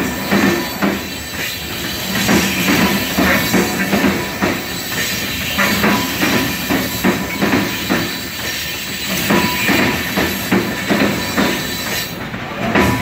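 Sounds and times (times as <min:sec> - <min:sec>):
thin steady wheel squeal: 0:00.0 - 0:12.2
train wheels clacking over rail joints: 0:00.0 - 0:13.0.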